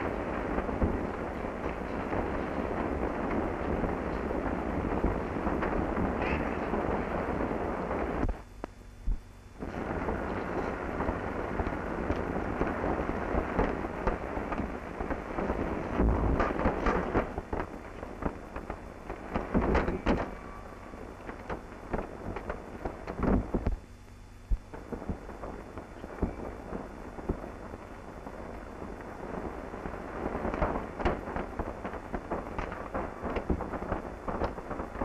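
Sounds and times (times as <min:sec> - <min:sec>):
old film soundtrack crackling: 0:00.0 - 0:08.8, 0:09.6 - 0:35.0.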